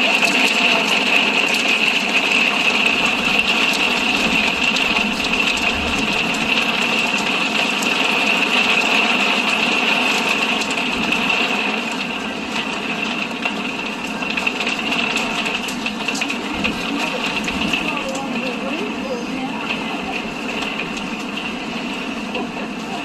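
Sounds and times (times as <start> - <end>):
hailstones pelting hard surfaces: 0.0 - 23.0.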